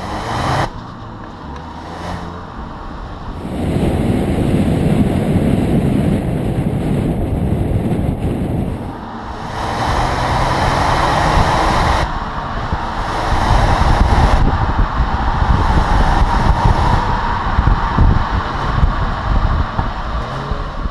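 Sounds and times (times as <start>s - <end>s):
car engine driving: 0.0s - 20.9s
road noise: 0.0s - 20.9s.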